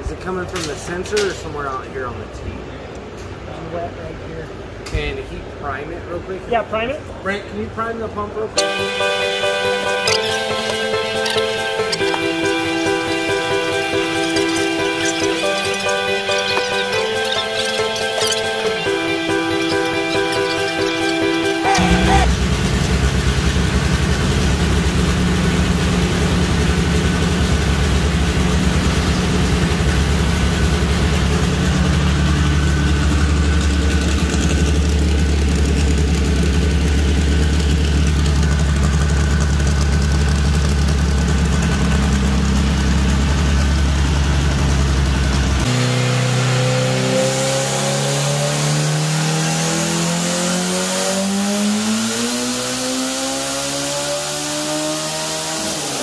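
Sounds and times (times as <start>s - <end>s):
turbocharged car engine running: 8.8s - 56.0s.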